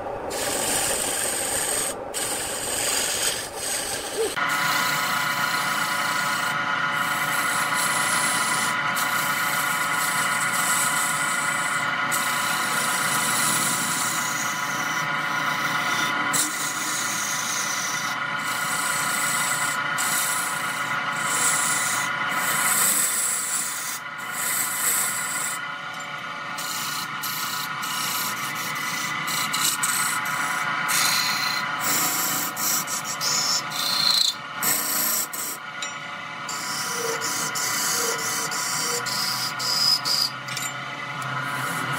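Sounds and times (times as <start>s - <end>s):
wood lathe hum: 0.0s - 41.9s
turning tool scraping wood: 0.3s - 25.6s, 26.6s - 35.6s, 36.5s - 40.4s, 41.3s - 41.9s.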